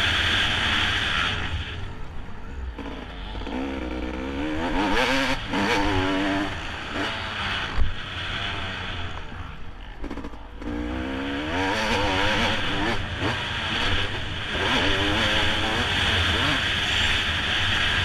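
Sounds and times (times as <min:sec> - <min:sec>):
dirt bike engine revving: 0:00.0 - 0:02.0, 0:02.7 - 0:18.0.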